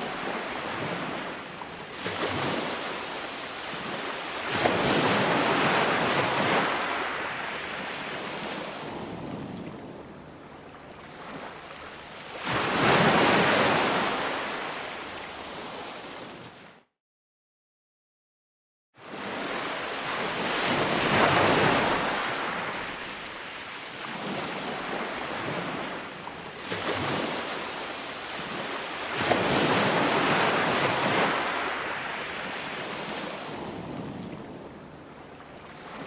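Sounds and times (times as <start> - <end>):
ocean waves surging: 0.0 - 15.4, 19.5 - 36.0.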